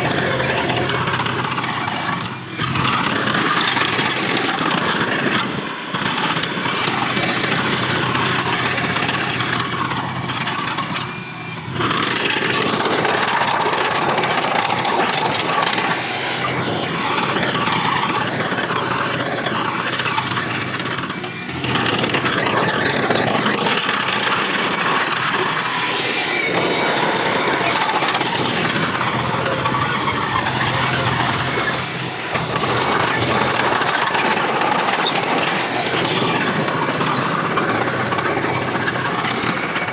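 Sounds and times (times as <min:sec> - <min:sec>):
heavy machinery engines running: 0:00.0 - 0:39.9.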